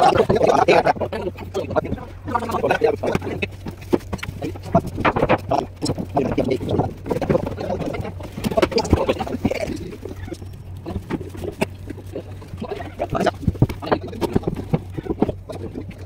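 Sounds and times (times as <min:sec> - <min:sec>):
rope and wooden planks handled: 0:00.0 - 0:16.0
steady low hum: 0:00.0 - 0:16.0.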